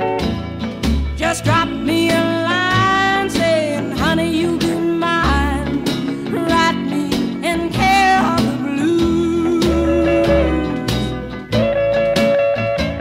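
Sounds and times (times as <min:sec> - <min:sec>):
country band with sliding guitar: 0:00.0 - 0:13.0.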